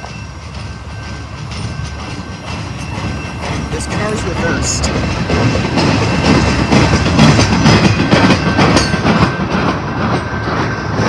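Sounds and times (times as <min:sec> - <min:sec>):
train wheels rumbling on rails: 0:00.0 - 0:11.0
wheels clacking over rail joints: 0:00.0 - 0:11.0.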